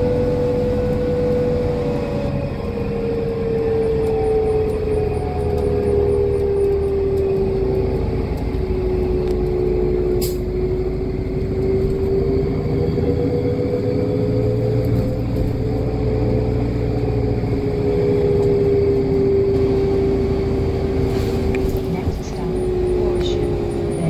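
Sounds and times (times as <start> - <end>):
bus engine drone: 0.0 - 24.0
road noise: 0.0 - 24.0
steady whine: 0.0 - 24.0.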